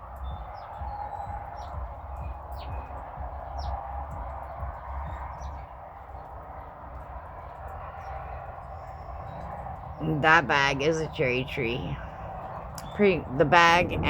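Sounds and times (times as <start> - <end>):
background hiss and rumble: 0.0 - 14.0
small birds chirping: 0.0 - 14.0.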